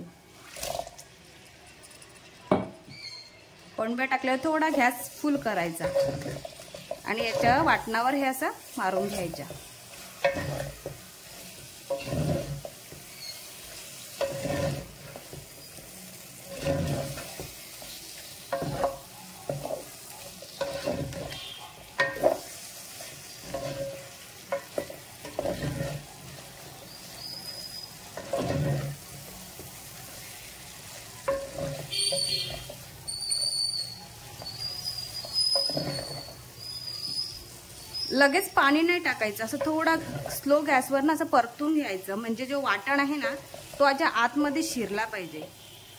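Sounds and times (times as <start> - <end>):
prawns sizzling in a pan: 0.0 - 45.9
spatula stirring and scraping: 4.2 - 41.0, 42.7 - 45.7.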